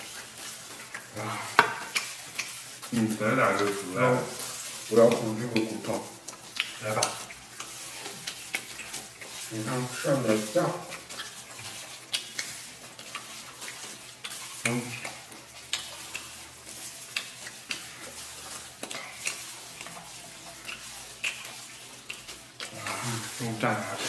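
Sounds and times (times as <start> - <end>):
meat tearing from bone: 0.0 - 24.0
wet chewing and eating: 0.0 - 24.0.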